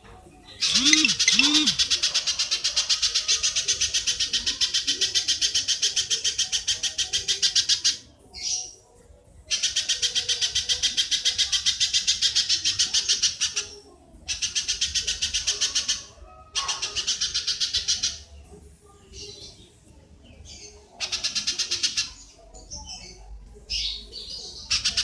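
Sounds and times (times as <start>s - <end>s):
rapid chatter of high bird notes: 0.0s - 25.0s.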